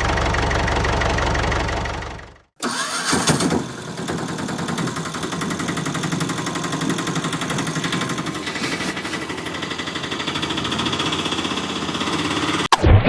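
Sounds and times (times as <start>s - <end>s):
engine starting and running: 0.0s - 12.8s.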